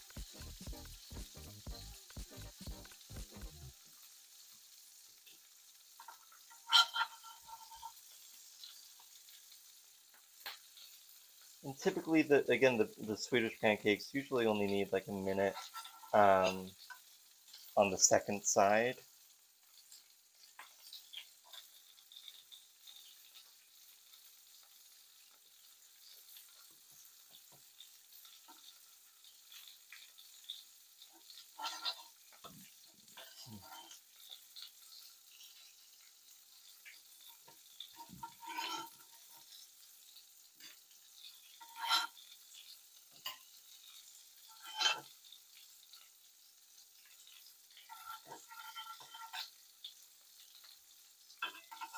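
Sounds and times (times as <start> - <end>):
pancakes sizzling in pans: 0.0 - 51.9.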